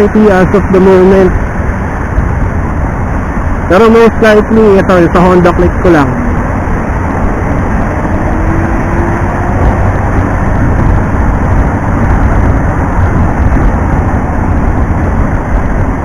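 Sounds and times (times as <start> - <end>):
wind and road noise rumble: 0.0 - 16.0.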